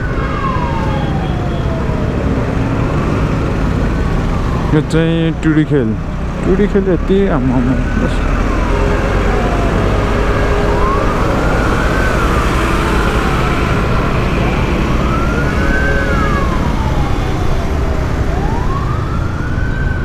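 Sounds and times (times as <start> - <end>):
fire engine siren wailing: 0.0 - 20.0
rumble of road traffic: 0.0 - 20.0.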